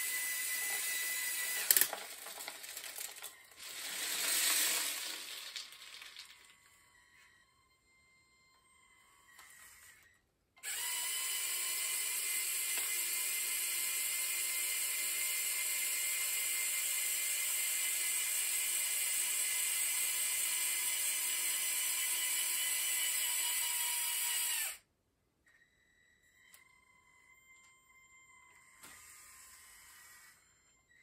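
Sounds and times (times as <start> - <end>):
toy electric motor whining: 0.0 - 24.9, 25.5 - 31.0.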